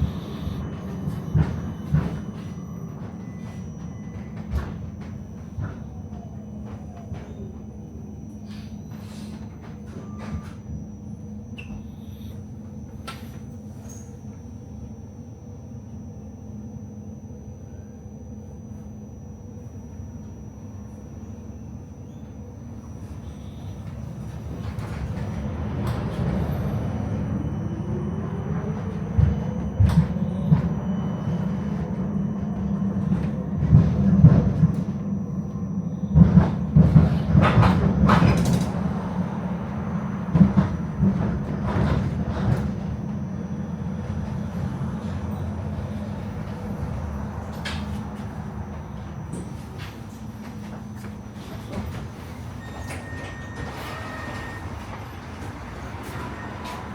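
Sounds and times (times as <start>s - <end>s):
tram rumbling: 0.0s - 56.9s.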